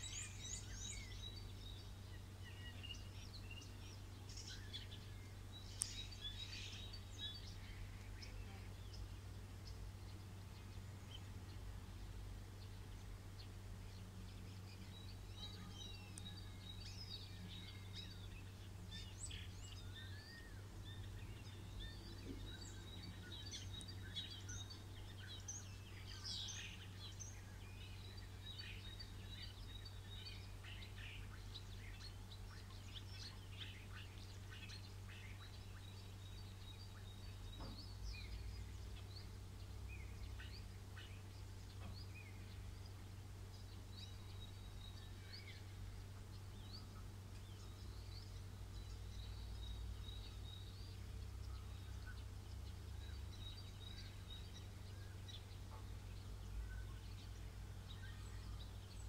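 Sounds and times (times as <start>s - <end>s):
faint low hum: 0.0s - 59.0s
songbirds chirping and singing: 0.0s - 59.0s.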